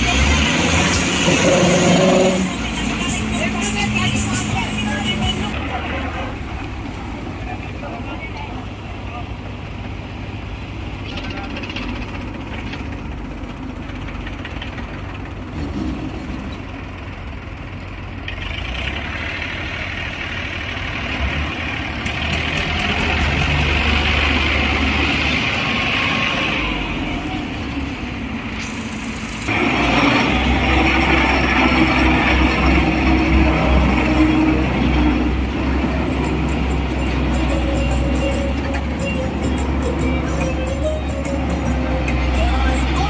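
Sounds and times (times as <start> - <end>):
diesel tractor engines running: 0.0 - 43.0.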